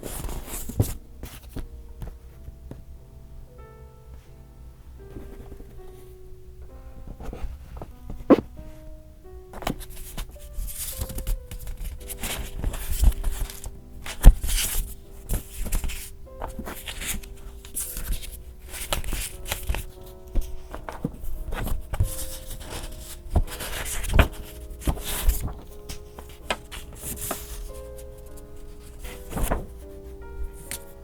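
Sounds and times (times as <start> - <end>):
paper rustling and crinkling: 0.0 - 2.2, 7.1 - 8.5, 9.6 - 31.0
soft background music: 0.0 - 31.0.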